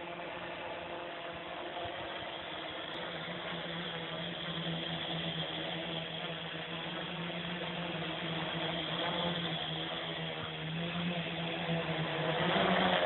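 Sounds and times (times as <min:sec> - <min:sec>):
drone motors buzzing: 0:00.0 - 0:13.0.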